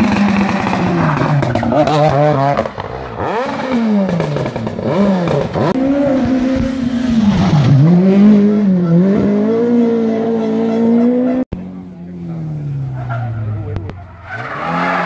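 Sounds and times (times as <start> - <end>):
rally car engines revving: 0.0 - 15.0.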